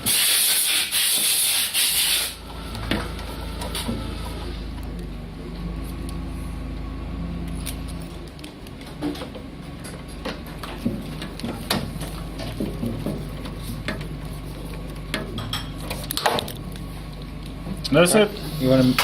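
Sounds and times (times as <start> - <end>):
steady low hum: 1.9 - 19.0.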